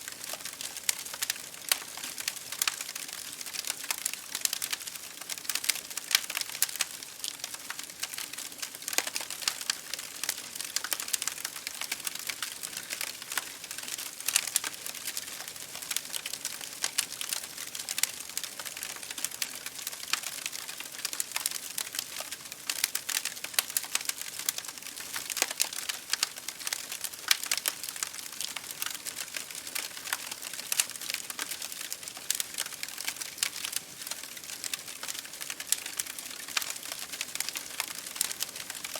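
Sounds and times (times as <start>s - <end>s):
wood fire crackling: 0.0s - 38.9s
rain striking a window: 0.1s - 38.9s.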